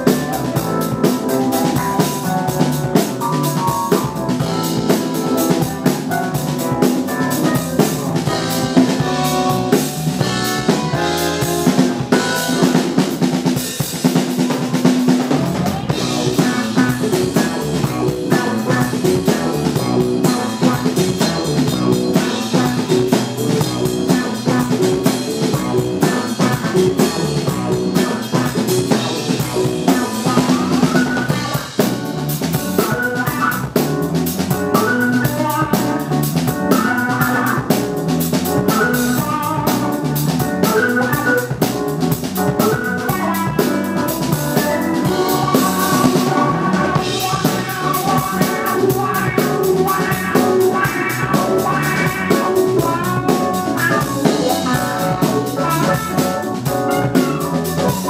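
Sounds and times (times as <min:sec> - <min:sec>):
bass guitar: 0:00.0 - 0:58.0
drum kit beat: 0:00.0 - 0:58.0
electric guitar: 0:00.0 - 0:58.0
keyboard: 0:00.0 - 0:58.0.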